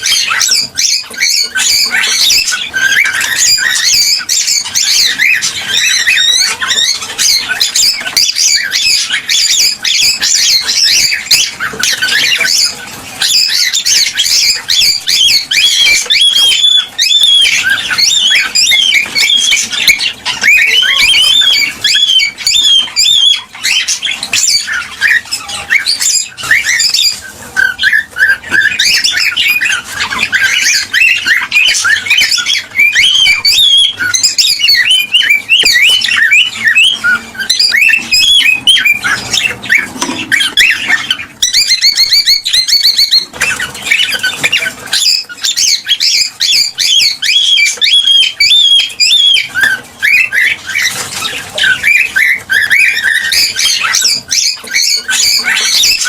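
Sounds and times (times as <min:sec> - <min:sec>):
cockatiels chirping and whistling: 0:00.0 - 0:56.0.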